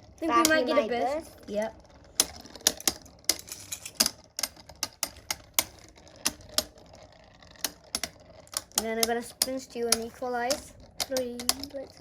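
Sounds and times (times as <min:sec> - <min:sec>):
spinning tops clacking: 0:00.0 - 0:12.0.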